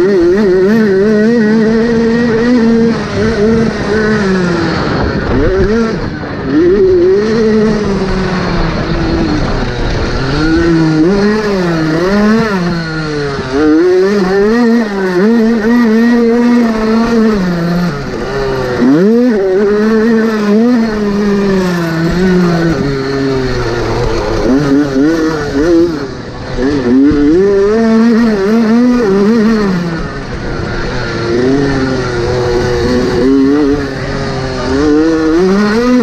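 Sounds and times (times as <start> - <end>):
motorcycle engine racing: 0.0 - 36.0.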